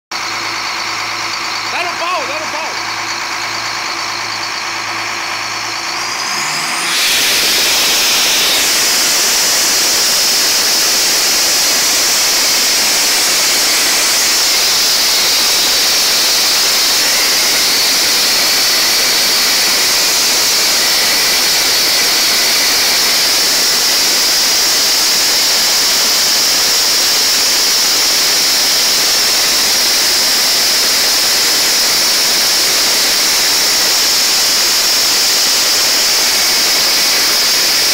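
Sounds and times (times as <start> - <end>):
compressor whine: 0.1 - 37.9
compressor rushing hiss: 6.2 - 37.9.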